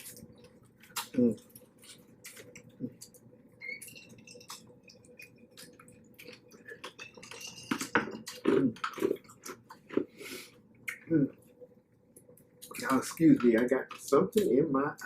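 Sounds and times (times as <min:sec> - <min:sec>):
chewing and wet mouth sounds: 0:00.0 - 0:14.5.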